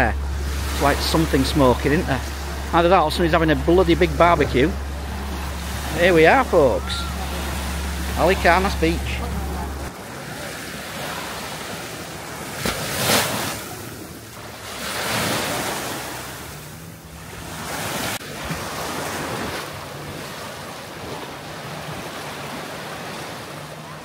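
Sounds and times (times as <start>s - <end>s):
small waves lapping on sand: 0.0s - 24.0s.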